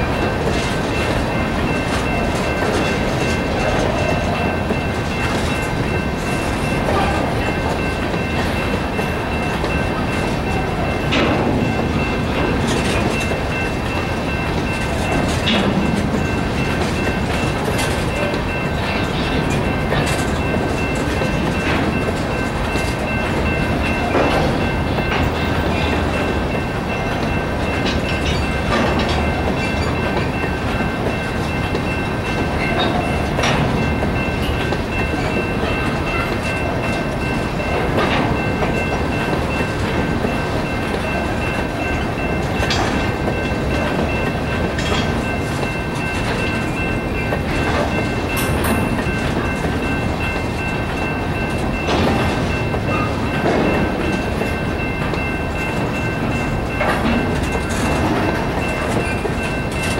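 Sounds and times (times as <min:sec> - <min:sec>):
crossing bell ringing: 0:00.0 - 0:59.9
train wheels rumbling on rail: 0:00.0 - 0:59.9
wheels clanking over rail joints: 0:00.0 - 0:59.9.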